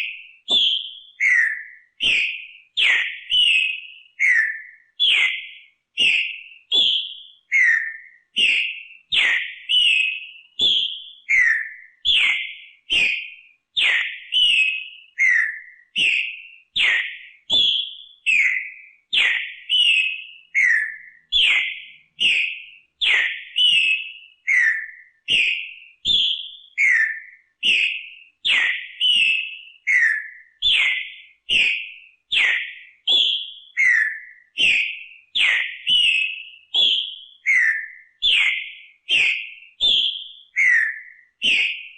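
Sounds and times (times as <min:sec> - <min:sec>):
bird singing whistled notes: 0:00.0 - 0:41.9.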